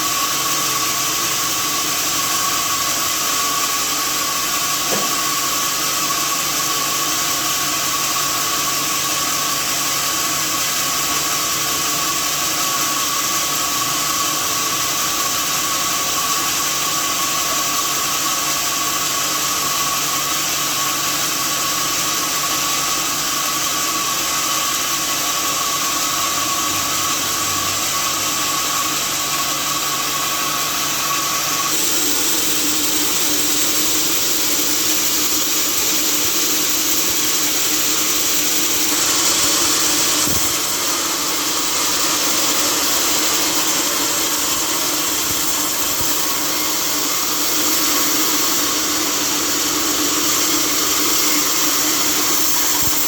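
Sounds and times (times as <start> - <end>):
sawmill saw whining: 0.0 - 53.0.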